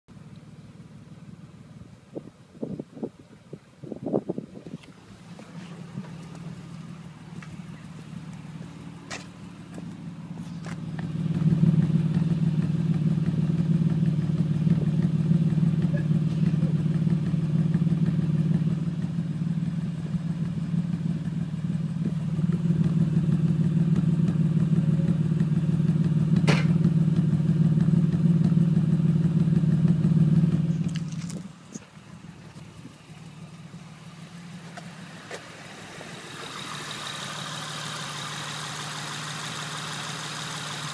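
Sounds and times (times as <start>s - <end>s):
car engine idling with misfire: 4.9s - 40.9s.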